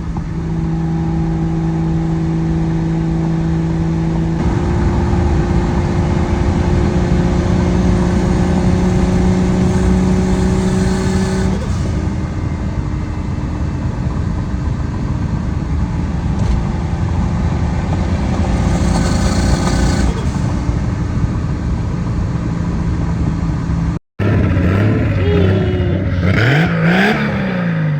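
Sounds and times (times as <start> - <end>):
car engine running: 0.0 - 27.4
road noise: 0.0 - 27.9.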